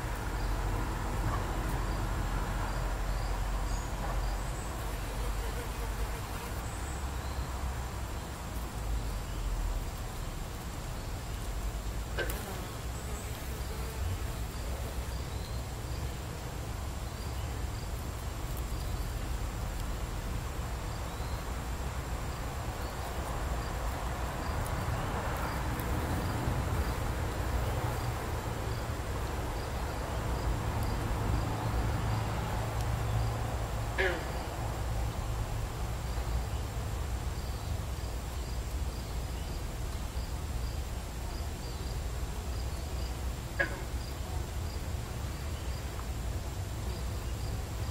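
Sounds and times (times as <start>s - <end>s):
insect chirps: 1.7s - 47.9s
insects high-pitched whine: 1.7s - 47.9s.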